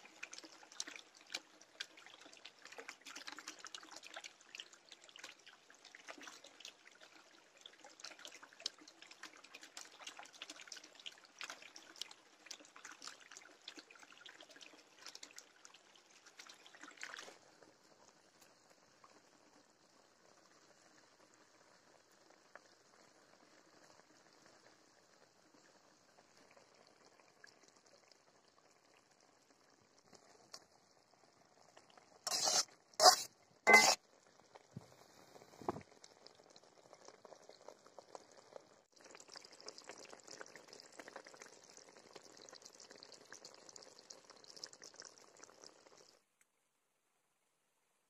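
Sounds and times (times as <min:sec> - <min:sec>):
curry bubbling and crackling: 0:00.0 - 0:46.4.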